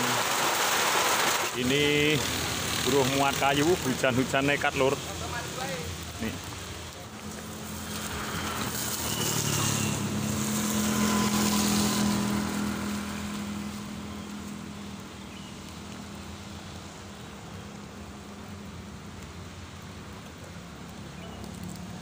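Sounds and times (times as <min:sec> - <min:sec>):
tyre hiss on wet road: 0:00.0 - 0:22.0
vehicle engine hum: 0:01.6 - 0:22.0.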